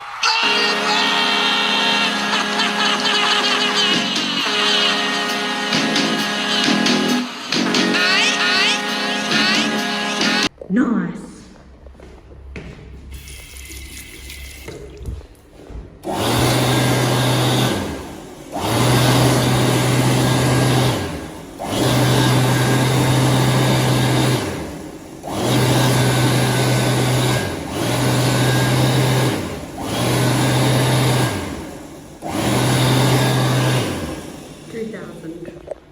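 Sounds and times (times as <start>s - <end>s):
hand dryer blowing: 0.0s - 10.5s, 13.1s - 35.5s.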